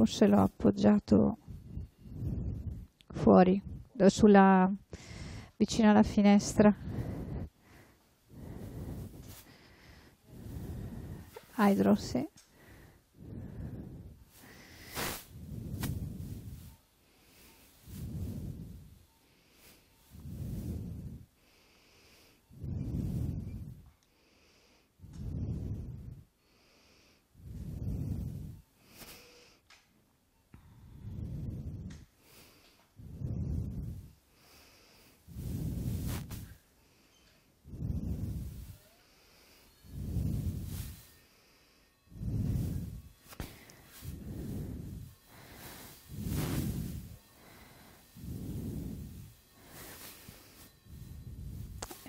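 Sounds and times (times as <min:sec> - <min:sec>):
person breathing close to microphone: 0:00.0 - 0:04.1, 0:04.8 - 0:29.7, 0:30.6 - 0:52.0.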